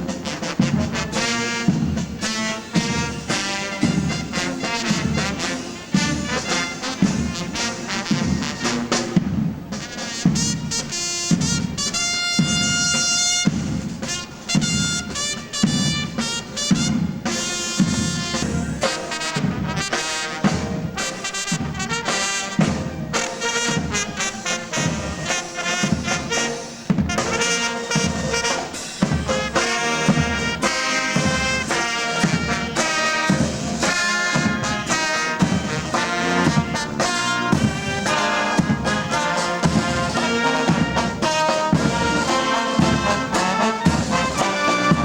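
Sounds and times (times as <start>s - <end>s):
brass band melody: 0.0s - 45.0s
marching drum beat: 0.0s - 45.0s.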